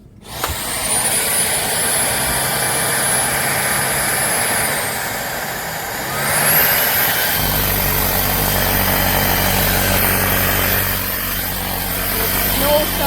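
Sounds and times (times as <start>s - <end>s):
stick vacuum motor whining: 0.0s - 13.0s.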